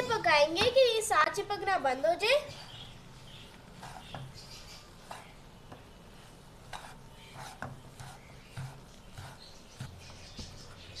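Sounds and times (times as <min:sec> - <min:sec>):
plastic spatula scraping a pan: 0:01.8 - 0:10.8.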